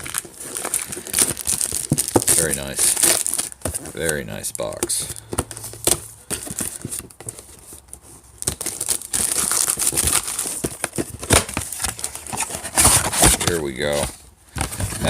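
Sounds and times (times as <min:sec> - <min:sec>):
cardboard and wrapping crinkling: 0:00.0 - 0:15.0.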